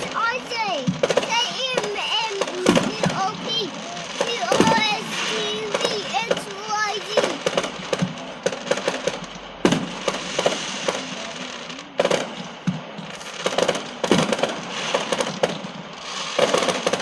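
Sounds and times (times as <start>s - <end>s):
fireworks crackling: 0.0s - 17.0s
fireworks cracks and bangs: 0.0s - 17.0s.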